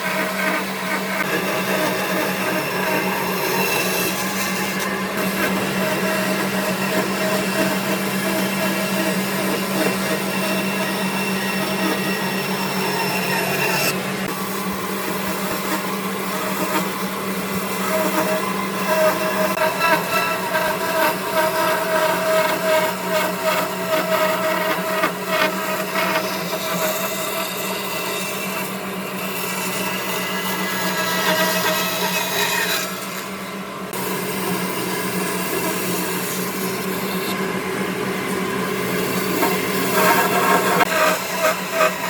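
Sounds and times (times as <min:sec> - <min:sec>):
electric power tool cutting wood: 0:00.0 - 0:42.0.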